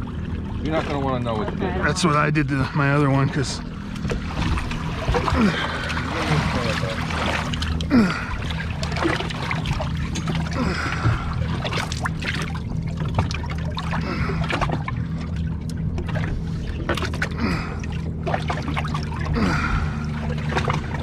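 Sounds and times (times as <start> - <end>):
outboard motor idling: 0.0 - 21.0
water sloshing and trickling: 0.0 - 21.0.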